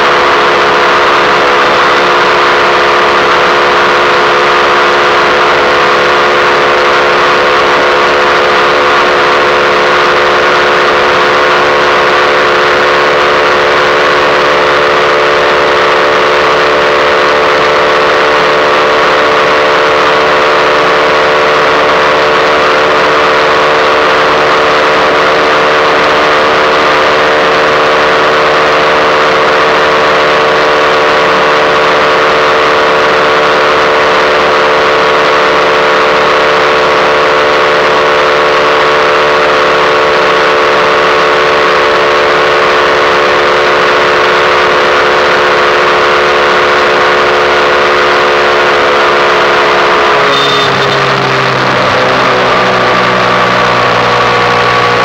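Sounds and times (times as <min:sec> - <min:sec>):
motorcycle engine at steady revs: 0:00.0 - 0:55.0
wind and road noise: 0:00.0 - 0:55.0.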